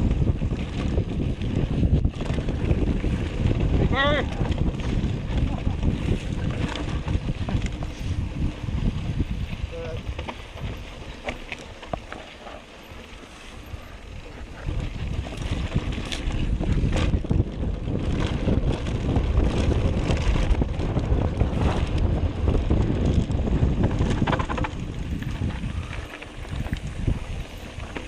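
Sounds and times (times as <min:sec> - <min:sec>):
bike clattering over bumps: 0:00.0 - 0:28.0
tyres rolling on dirt: 0:00.0 - 0:28.0
wind rumble on microphone: 0:00.0 - 0:28.0.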